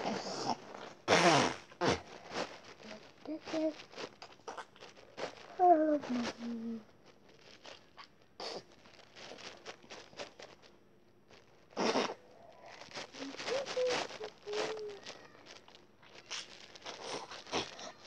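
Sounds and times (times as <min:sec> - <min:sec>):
paper rustling: 0:01.9 - 0:18.0.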